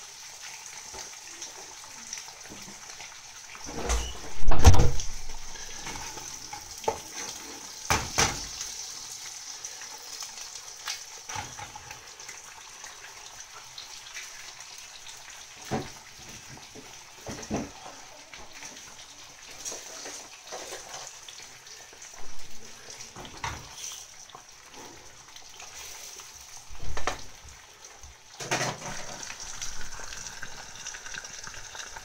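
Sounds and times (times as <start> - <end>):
eggs sizzling in a frying pan: 0.0 - 32.0.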